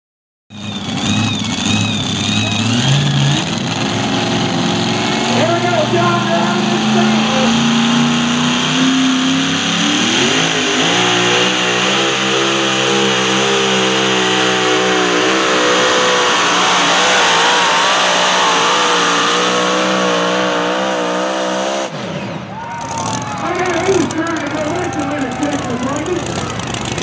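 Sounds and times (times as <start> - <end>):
truck engine at full throttle: 0.5 - 27.0.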